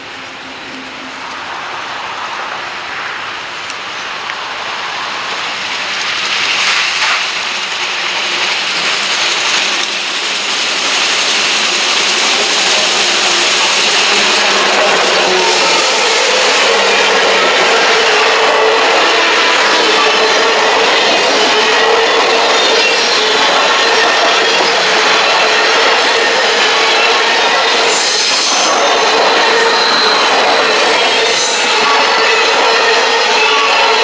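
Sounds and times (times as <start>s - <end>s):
steam locomotive passing: 0.0s - 34.0s.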